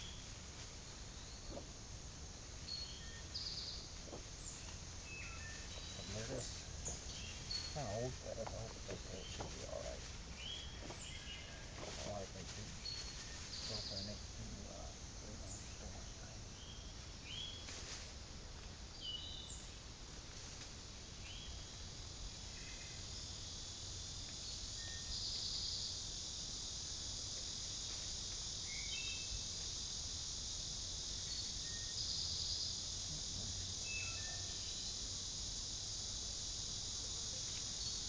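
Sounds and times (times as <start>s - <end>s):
insect chorus: 0.0s - 38.0s.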